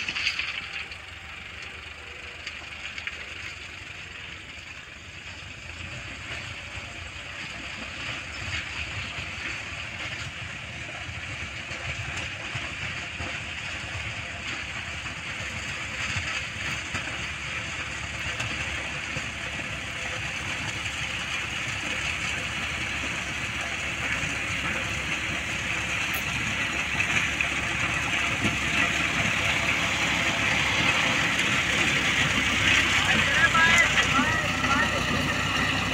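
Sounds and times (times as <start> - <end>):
tractor diesel engine running: 0.0 - 35.9
rotavator churning soil: 5.8 - 35.9.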